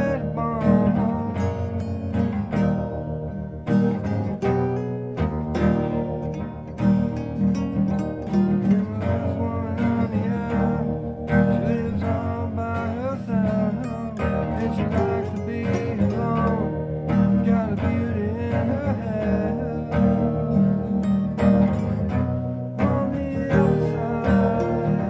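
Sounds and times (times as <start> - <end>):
electric guitar with delay: 0.0 - 25.0.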